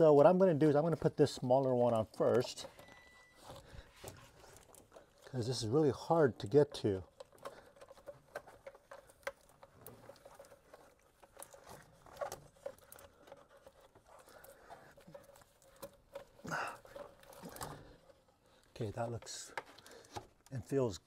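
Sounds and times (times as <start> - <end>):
clicks and rubbing of hose: 0.0 - 21.0
rustling: 0.0 - 21.0.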